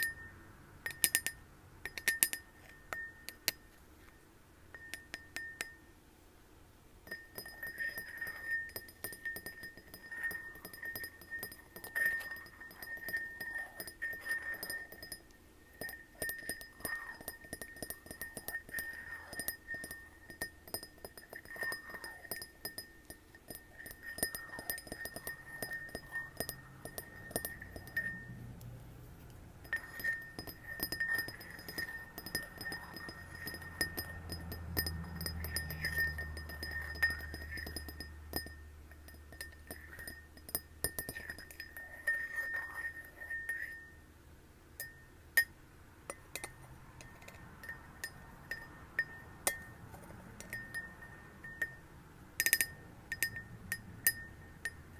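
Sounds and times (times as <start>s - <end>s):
glass ringing: 0.0s - 5.9s, 7.0s - 28.6s, 29.6s - 44.0s, 44.8s - 54.9s.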